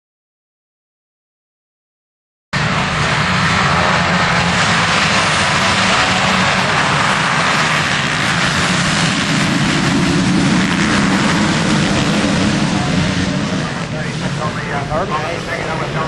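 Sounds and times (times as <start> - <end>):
motocross bike engines: 2.6 - 16.0.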